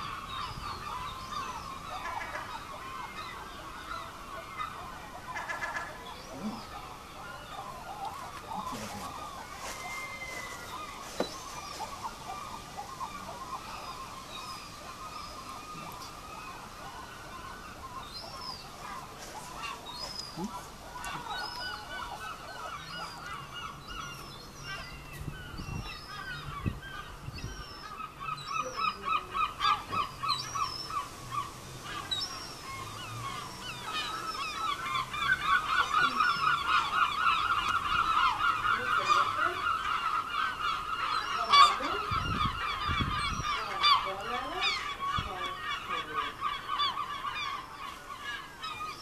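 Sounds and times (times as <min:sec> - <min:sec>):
gulls calling: 0:00.0 - 0:49.0.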